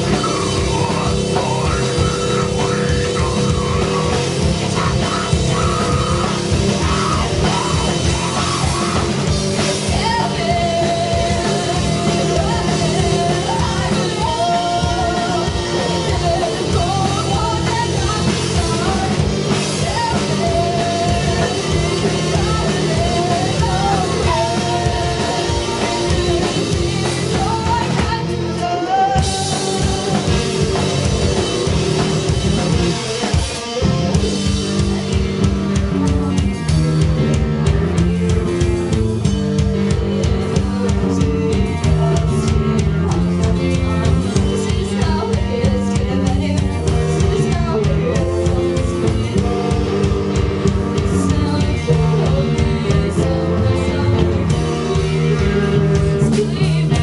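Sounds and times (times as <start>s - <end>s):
woman singing: 0.0s - 31.8s, 37.2s - 57.0s
live rock band playing: 0.0s - 57.0s.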